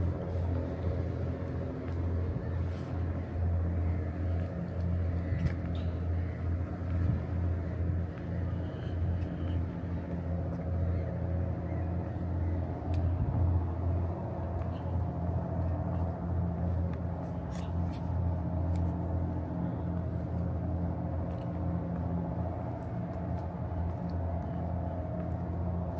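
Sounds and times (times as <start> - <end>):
low mechanical rumble: 0.0 - 25.9.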